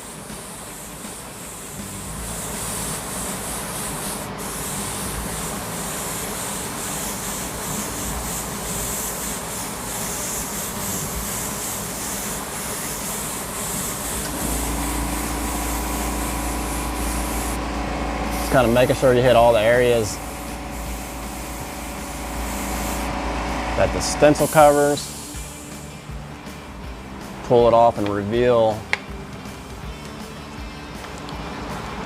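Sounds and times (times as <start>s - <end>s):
airbrush spraying hiss: 0.0s - 26.6s.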